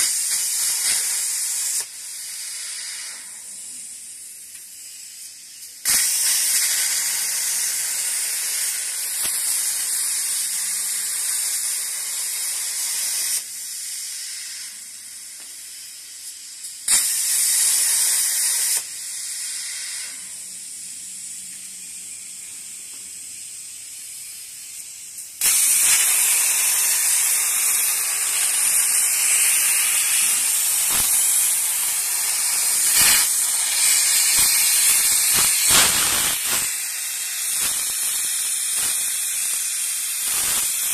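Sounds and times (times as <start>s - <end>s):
plasma cutter hissing: 0.0s - 40.9s.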